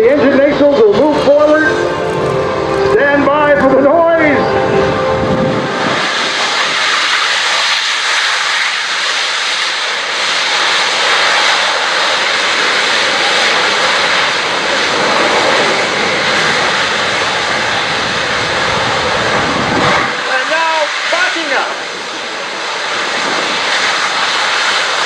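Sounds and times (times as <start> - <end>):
jet engines in reverse thrust: 0.0 - 25.0.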